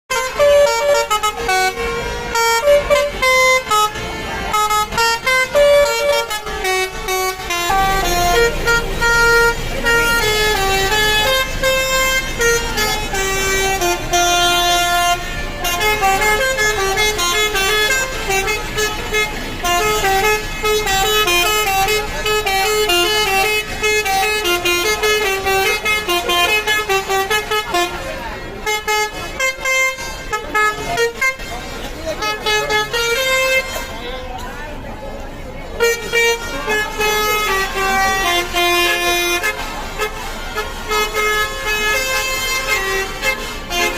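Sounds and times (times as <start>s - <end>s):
low engine rumble: 0.1s - 43.9s
musical bus horns melody: 0.1s - 43.9s.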